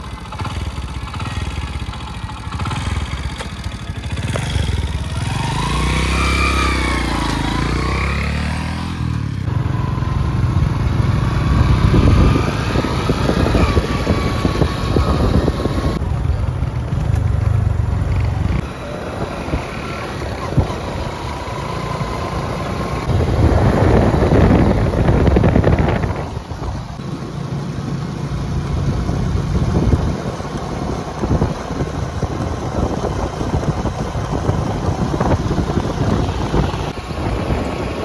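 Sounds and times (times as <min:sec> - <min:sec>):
motorcycle engine riding: 0:00.0 - 0:38.0.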